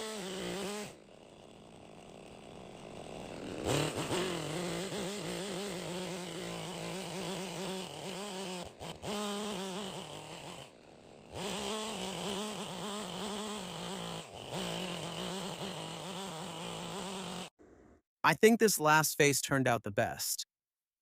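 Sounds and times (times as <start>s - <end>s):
chainsaw cutting a log: 0.0s - 17.5s.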